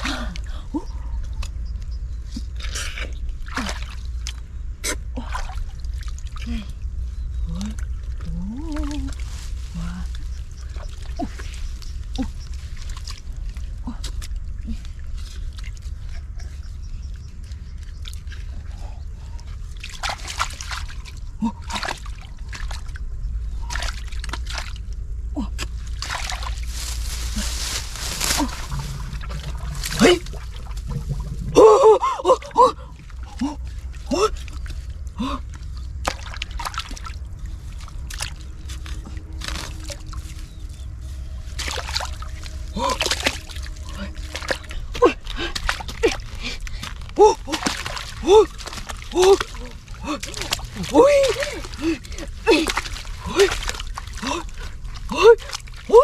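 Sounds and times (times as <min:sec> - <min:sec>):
low rumble: 0:00.0 - 0:55.9
muddy water splashing: 0:00.0 - 0:56.0.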